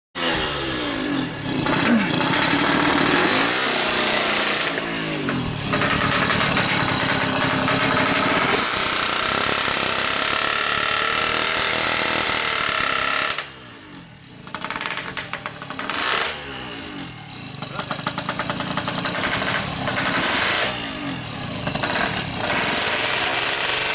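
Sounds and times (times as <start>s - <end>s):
two-stroke engine revving: 0.2s - 23.9s.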